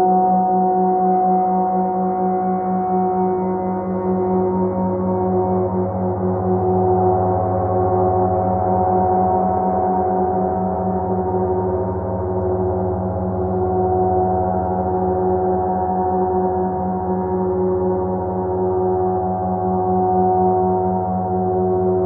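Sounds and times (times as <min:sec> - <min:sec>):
gong drone from friction mallet: 0:00.0 - 0:22.0.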